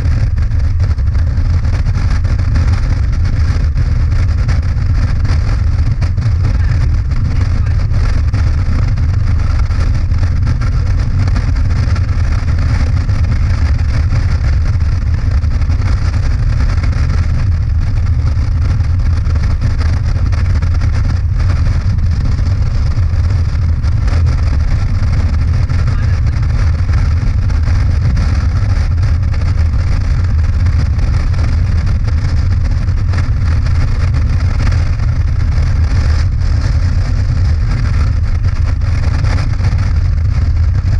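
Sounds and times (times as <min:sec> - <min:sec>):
motorcycle engine and road rumble: 0:00.0 - 0:40.9
rushing air noise: 0:00.0 - 0:40.9.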